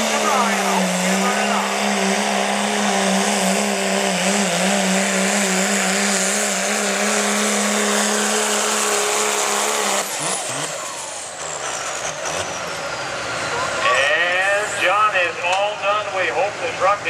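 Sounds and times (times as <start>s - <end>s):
pickup truck engine at high revs: 0.0s - 17.0s.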